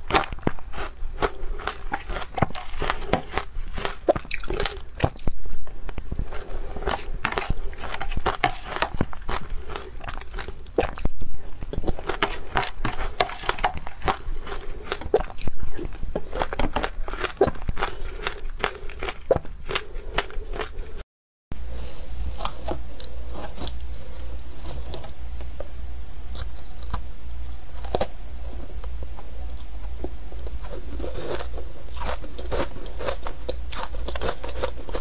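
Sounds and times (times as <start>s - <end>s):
crunching and chewing ice: 0.0s - 21.0s, 27.8s - 35.0s.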